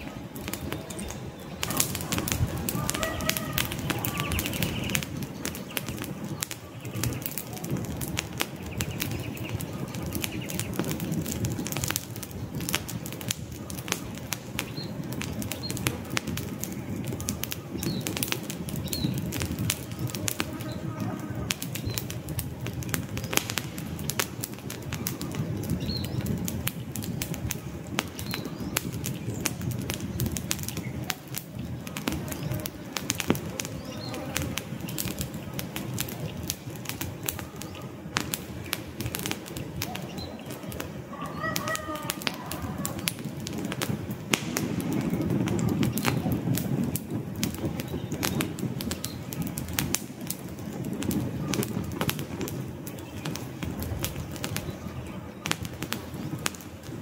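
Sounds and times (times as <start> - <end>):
flames rushing: 0.0 - 57.0
logs crackling and popping: 0.0 - 57.0.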